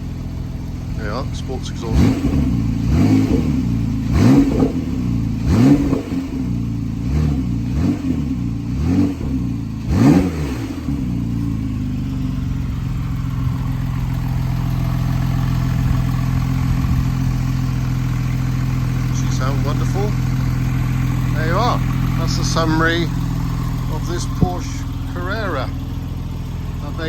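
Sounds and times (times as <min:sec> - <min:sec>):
car engine idling: 0:00.0 - 0:27.0
car engine revving: 0:00.0 - 0:27.0.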